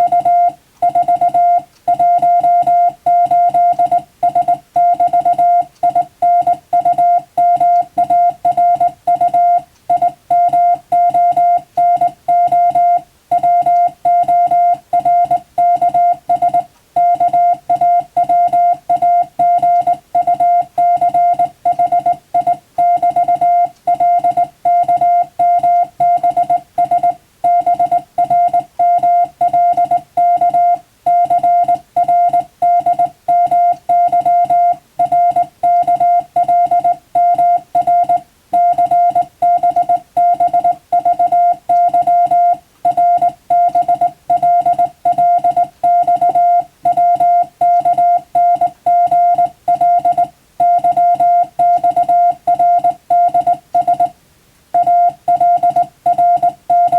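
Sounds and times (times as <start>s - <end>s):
morse code beeps: 0.0s - 54.2s, 54.8s - 56.9s.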